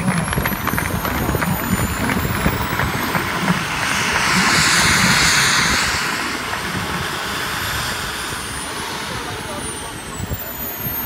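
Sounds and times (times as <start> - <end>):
high turbine whine: 0.0 - 11.0
jet engine rush: 0.0 - 11.0.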